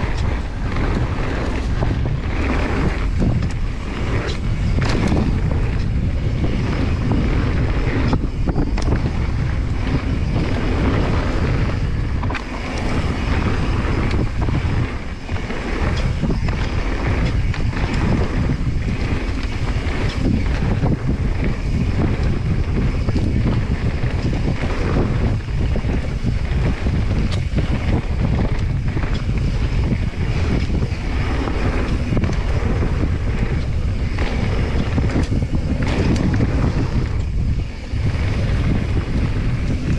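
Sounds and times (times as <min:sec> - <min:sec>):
bike chain and suspension rattling: 0:00.0 - 0:39.9
tyre rumble on gravel trail: 0:00.0 - 0:39.9
wind buffeting microphone: 0:00.0 - 0:39.9.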